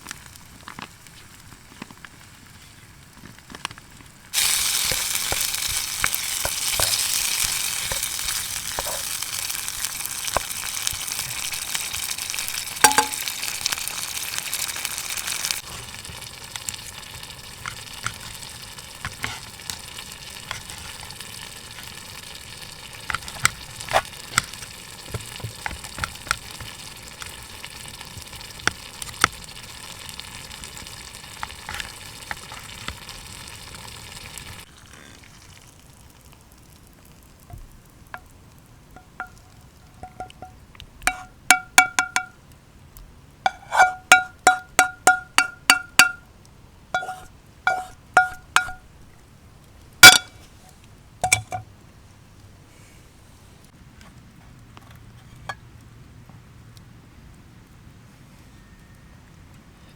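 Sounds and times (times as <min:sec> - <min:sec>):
food sizzling in a frying pan: 0:00.0 - 0:42.4, 0:43.4 - 0:49.2, 0:49.8 - 0:51.6.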